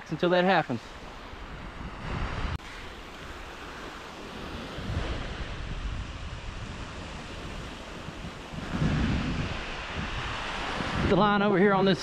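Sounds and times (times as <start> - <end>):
surf waves washing onto sand: 0.2 - 12.0
wind buffeting microphone: 1.0 - 12.0.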